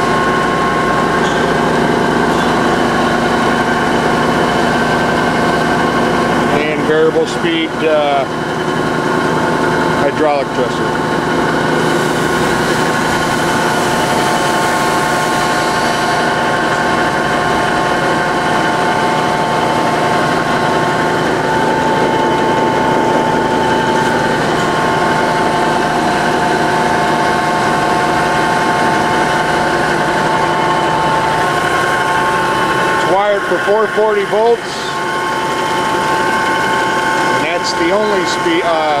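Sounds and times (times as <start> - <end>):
grinder machine humming and whining: 0.0 - 39.0.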